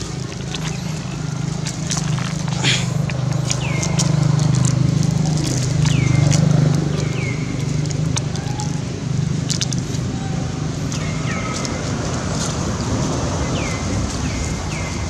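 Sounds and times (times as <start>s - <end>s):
dry leaves crackling and rustling: 0.0s - 15.0s
steady low hum: 0.0s - 15.0s.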